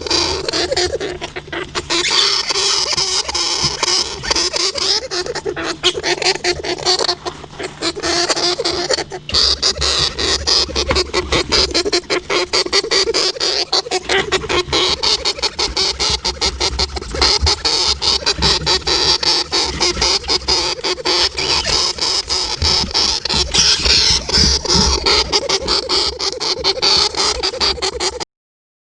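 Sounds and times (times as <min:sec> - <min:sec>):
hamster squeaking: 0:00.0 - 0:28.2.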